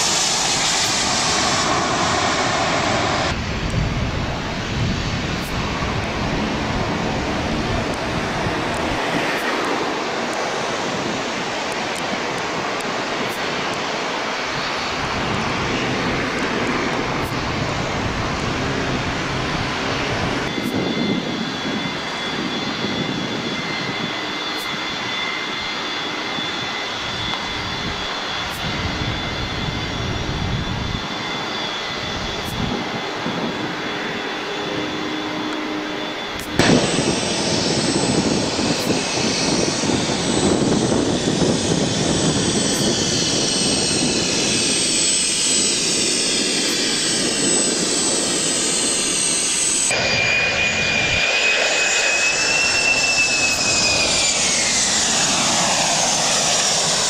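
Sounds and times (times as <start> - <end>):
jet engines whining: 0.0 - 57.0
turboprop airliner engine rushing: 0.0 - 57.0.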